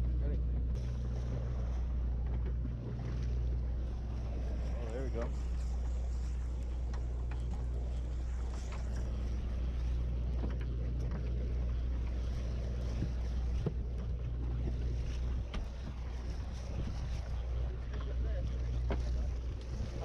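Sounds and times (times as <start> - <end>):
boat machinery droning: 0.0 - 20.0.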